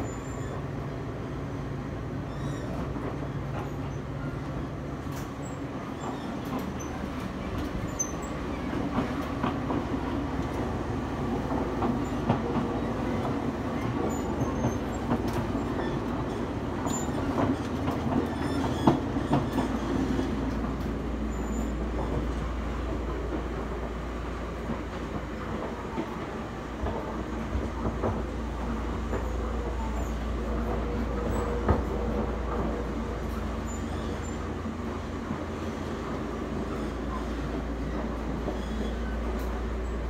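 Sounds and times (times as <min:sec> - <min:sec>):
train interior running rumble: 0:00.0 - 0:40.0.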